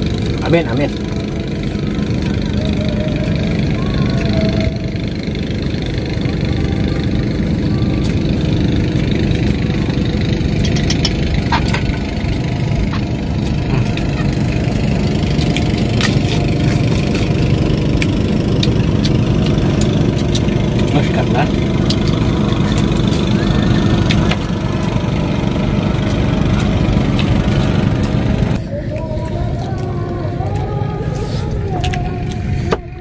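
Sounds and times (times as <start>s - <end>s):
low engine-like rumble: 0.0s - 33.0s.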